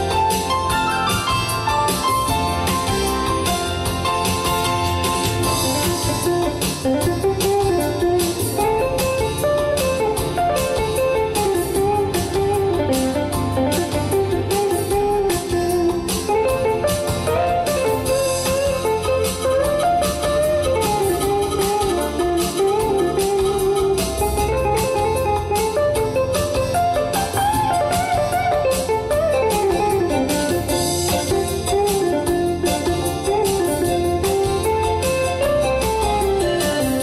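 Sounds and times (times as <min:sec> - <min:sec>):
guitar lead melody bending pitch: 0:00.0 - 0:37.0
keyboards: 0:00.0 - 0:37.0
steady drum beat: 0:00.0 - 0:37.0.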